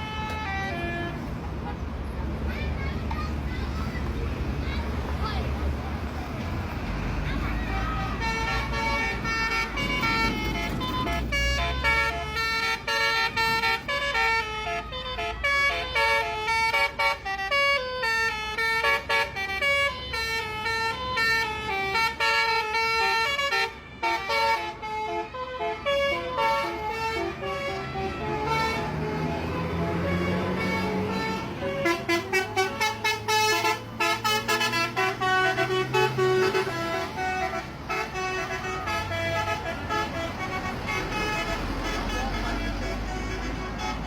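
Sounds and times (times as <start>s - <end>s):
multi-tone bus horn melody: 0.0s - 2.5s, 6.6s - 44.0s.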